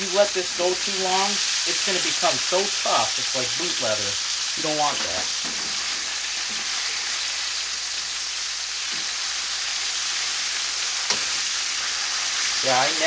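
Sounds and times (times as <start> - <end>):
steaks frying in hot oil: 0.0 - 13.0.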